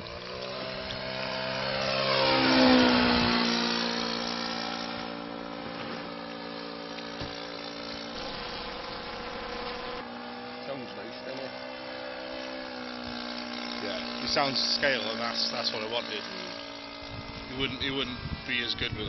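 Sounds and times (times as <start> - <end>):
model plane engine passing overhead: 0.0 - 19.0.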